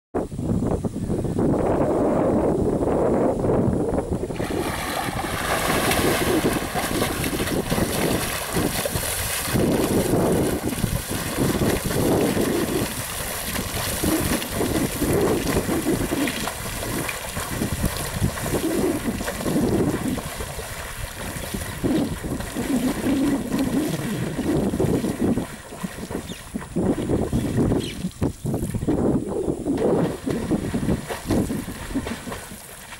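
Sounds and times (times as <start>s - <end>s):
wind buffeting microphone: 0.1s - 32.9s.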